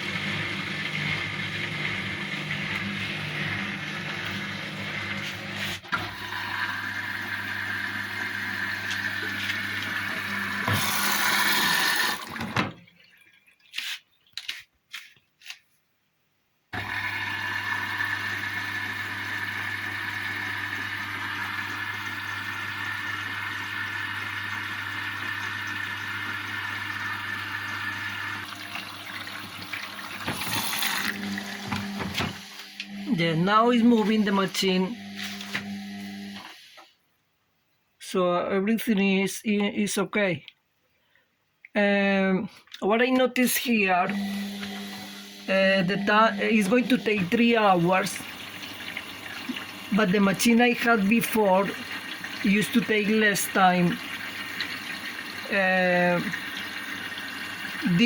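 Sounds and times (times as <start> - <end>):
washing machine filling with water: 0.0 - 13.7, 16.8 - 36.8, 44.0 - 58.0.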